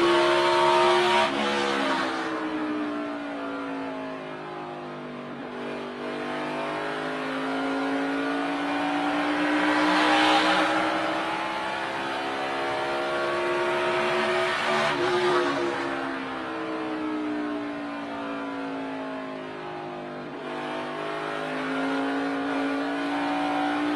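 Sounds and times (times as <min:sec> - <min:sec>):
race car engine: 0:00.0 - 0:23.9.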